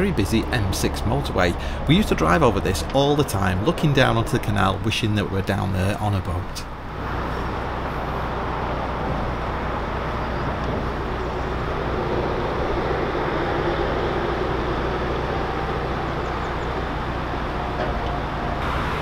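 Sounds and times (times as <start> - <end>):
boat engine humming: 0.0 - 19.0
heavy motorway traffic rushing: 0.0 - 19.0.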